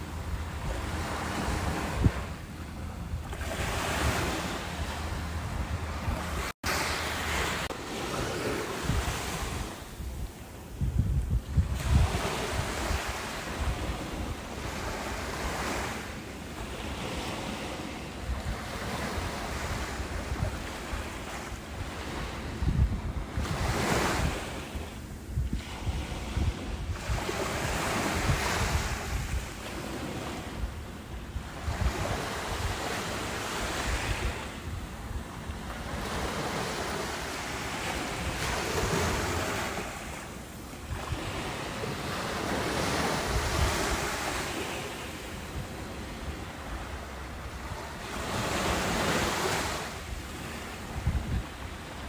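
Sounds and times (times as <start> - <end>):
ocean waves breaking: 0.0 - 10.9, 11.5 - 52.0
wind rumbling on microphone: 0.0 - 52.0.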